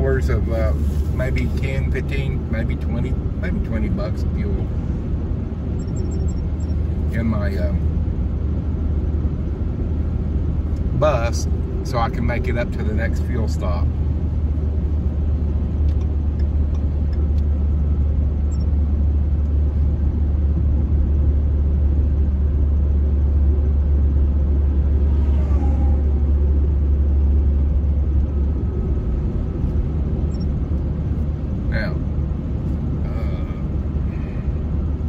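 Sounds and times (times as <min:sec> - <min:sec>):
vehicle engine and tyre noise: 0:00.0 - 0:35.0.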